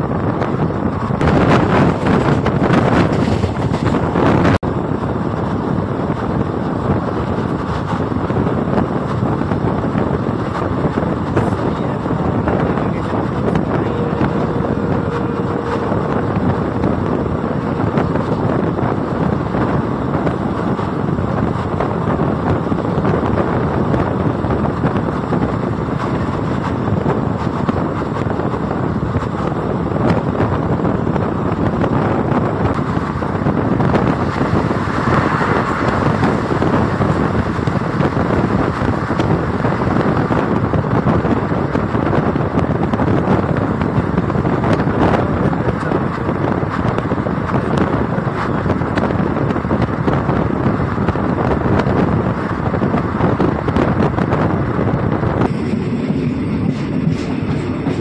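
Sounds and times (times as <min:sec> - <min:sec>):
train rumbling on track: 0:00.0 - 0:58.0
wind blowing on microphone: 0:00.0 - 0:58.0.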